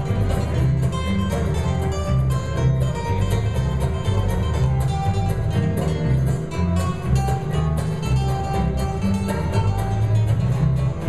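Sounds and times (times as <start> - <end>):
held melody notes: 0.0 - 11.0
strummed acoustic guitars: 0.0 - 11.0
walking bass line: 0.0 - 11.0.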